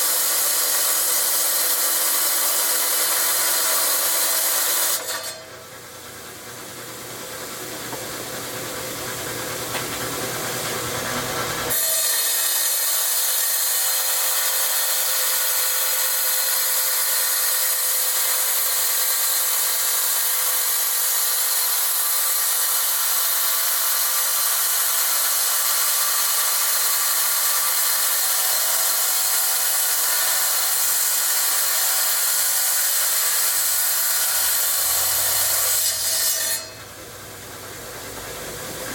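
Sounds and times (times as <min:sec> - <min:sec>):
tile saw cutting rock: 0:00.0 - 0:05.7, 0:09.3 - 0:37.0.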